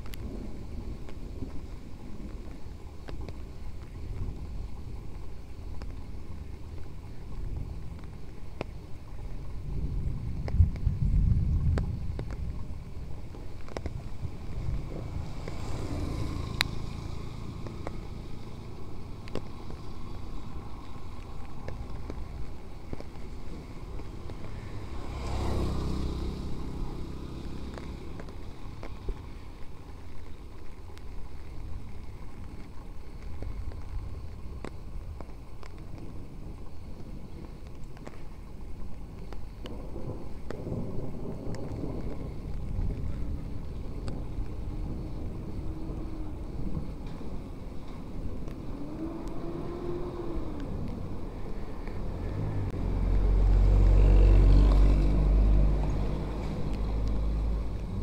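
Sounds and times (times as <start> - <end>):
car passing on wet road: 0.0 - 58.0
low rumble of traffic: 0.0 - 58.0.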